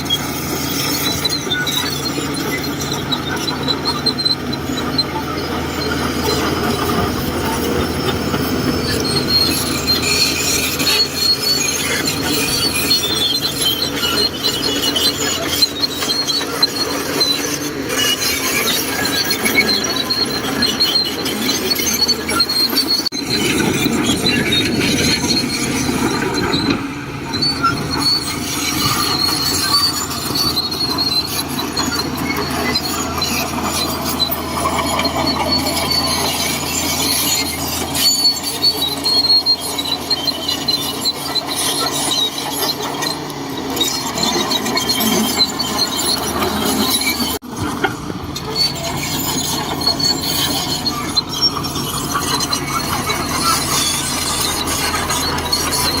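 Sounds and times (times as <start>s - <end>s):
bulldozer engine under load: 0.0s - 56.0s
steel tracks squealing and clattering: 0.0s - 56.0s.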